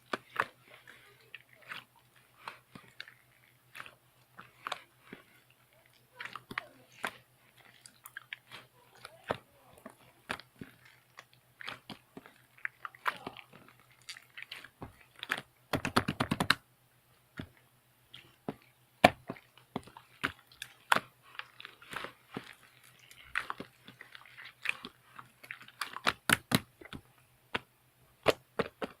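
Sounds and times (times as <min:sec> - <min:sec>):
slime squished by hand: 0:00.0 - 0:16.6, 0:17.3 - 0:29.0.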